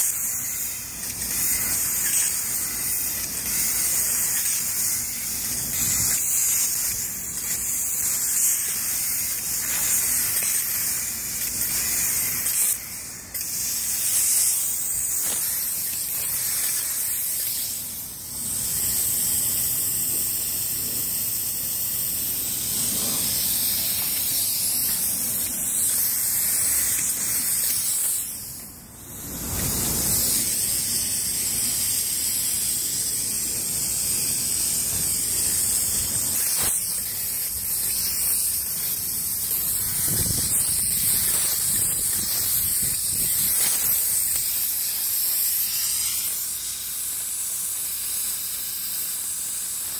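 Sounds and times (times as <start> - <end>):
spray gun hissing: 0.0 - 49.9.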